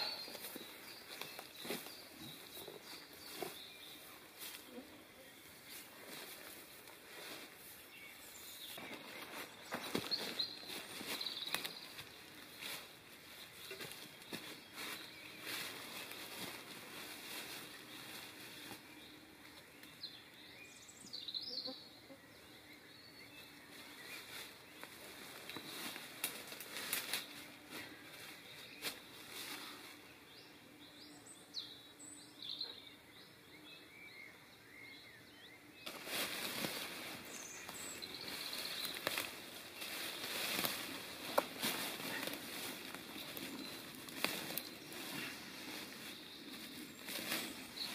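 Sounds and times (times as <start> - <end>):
dry leaves and twigs rustling: 0.0 - 4.8, 5.4 - 20.0, 23.5 - 30.4, 35.8 - 47.9.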